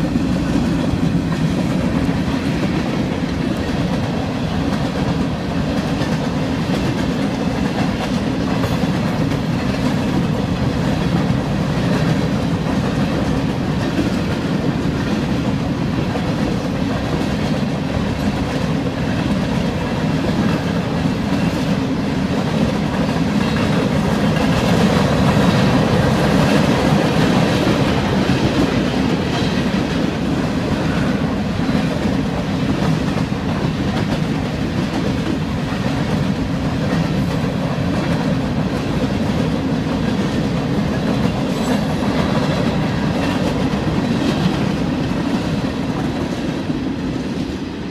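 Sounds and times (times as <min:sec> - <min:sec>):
freight train cars rolling: 0:00.0 - 0:47.9.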